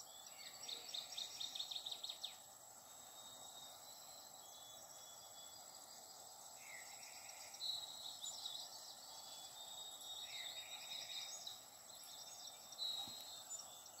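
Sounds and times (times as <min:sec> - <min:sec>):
faint bird chirping: 0:00.0 - 0:14.0
steady background hiss: 0:00.0 - 0:14.0.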